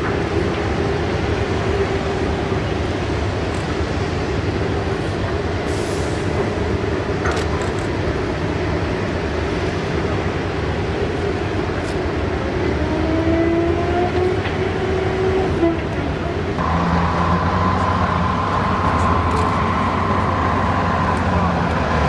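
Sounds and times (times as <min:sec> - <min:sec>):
heavy engines running: 0:00.0 - 0:22.0.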